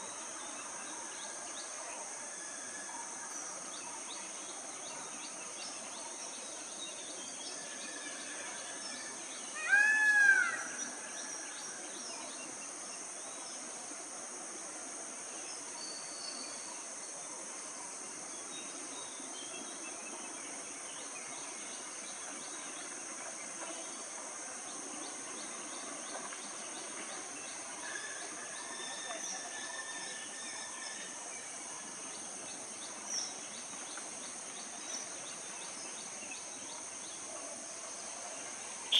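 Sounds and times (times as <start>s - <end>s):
insect drone: 0.0s - 38.9s.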